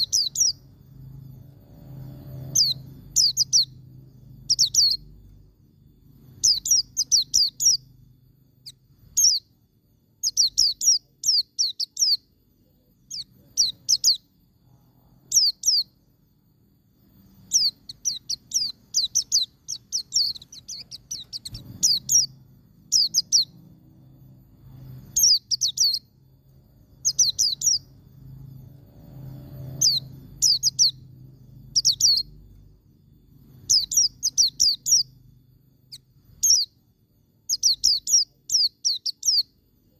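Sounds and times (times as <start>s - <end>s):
bird chirping in quick bursts: 0.0s - 16.3s, 17.0s - 32.6s, 33.2s - 39.6s
faint low hum: 0.0s - 39.9s.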